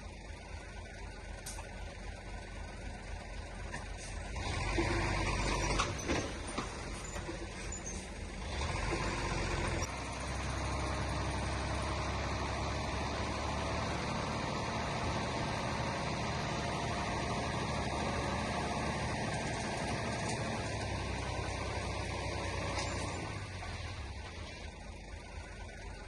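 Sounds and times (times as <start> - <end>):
heavy diesel machinery rumble: 0.0 - 26.0.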